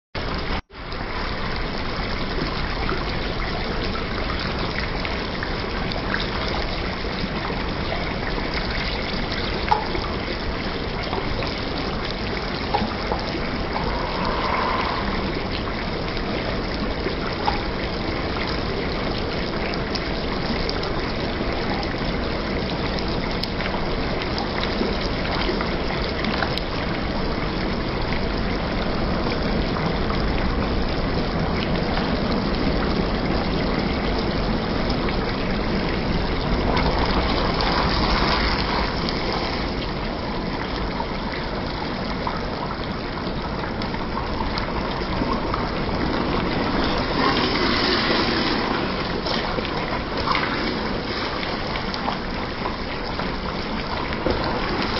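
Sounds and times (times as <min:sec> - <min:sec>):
curry bubbling and sizzling in a pan: 0:00.2 - 0:54.9.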